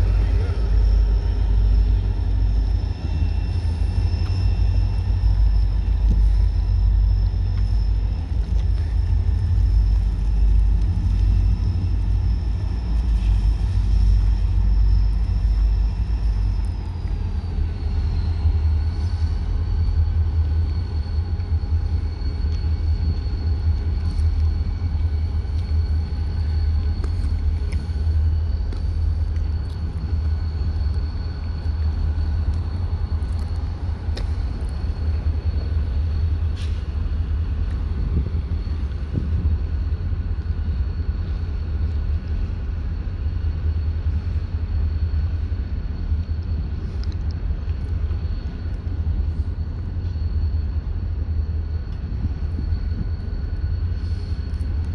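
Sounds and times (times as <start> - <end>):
drone propellers whining: 0.0 - 54.9
heavy low rumble: 0.0 - 54.9.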